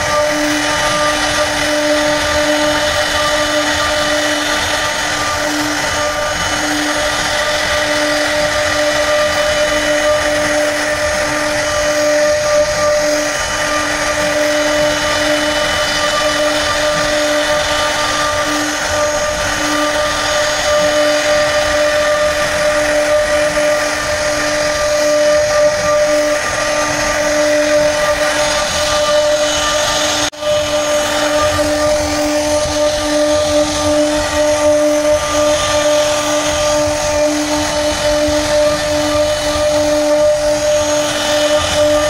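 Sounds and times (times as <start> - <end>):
power tool carving wood: 0.0 - 42.0.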